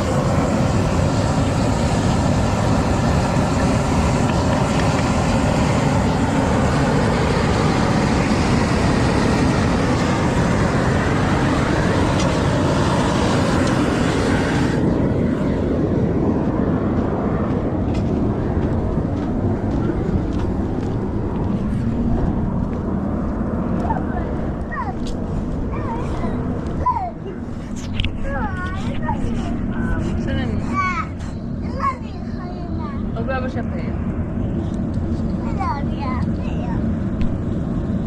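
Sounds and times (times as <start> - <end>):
machine running noise: 0.0 - 38.0.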